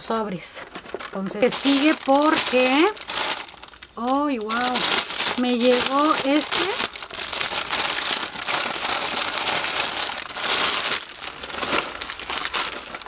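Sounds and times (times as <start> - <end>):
plastic packaging crinkling: 0.4 - 13.0.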